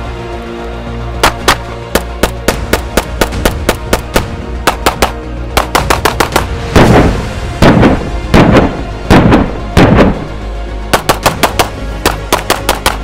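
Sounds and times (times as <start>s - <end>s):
background music: 0.0s - 13.0s
pistol shots: 1.2s - 10.2s, 10.9s - 13.0s.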